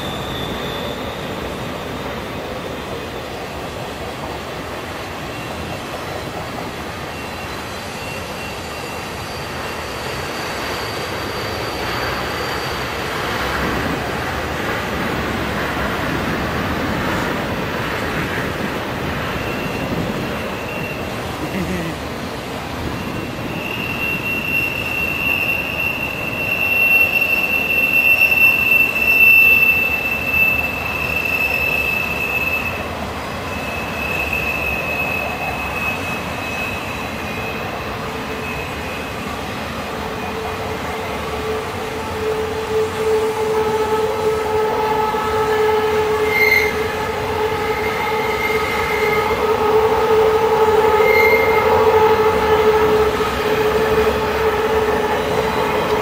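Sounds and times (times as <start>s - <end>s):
train rolling noise: 0.0s - 56.0s
train wheels squealing: 0.0s - 56.0s.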